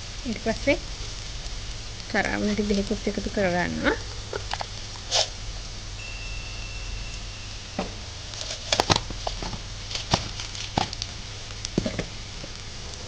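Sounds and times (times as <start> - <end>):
low steady hum: 0.0 - 13.0
onions frying in butter: 0.0 - 13.0.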